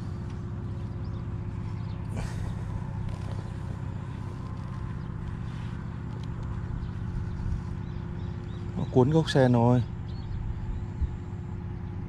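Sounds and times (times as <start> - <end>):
engine droning: 0.0 - 12.0
faint steady hum: 0.0 - 12.0.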